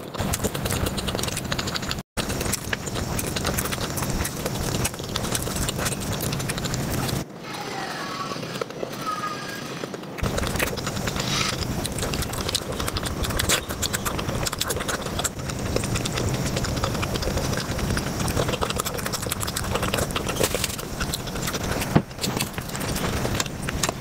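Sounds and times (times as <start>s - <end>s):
wet chewing and mouth-smacking: 0.0s - 7.3s, 10.2s - 24.0s.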